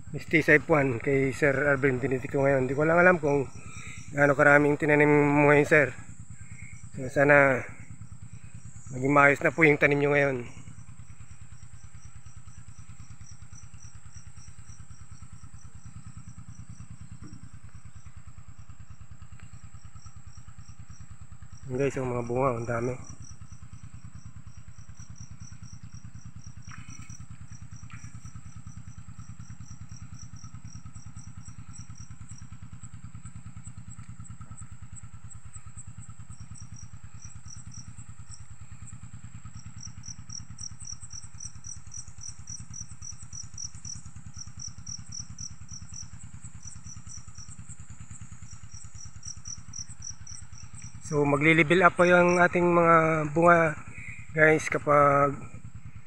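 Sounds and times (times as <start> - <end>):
insects chirping: 0.0 - 56.0
small engine running: 0.0 - 56.0.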